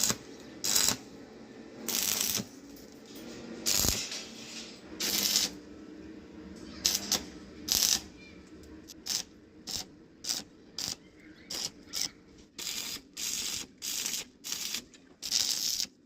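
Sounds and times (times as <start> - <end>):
arc welder crackling: 0.0 - 5.7, 6.6 - 16.0
faint steady hum: 0.0 - 16.0.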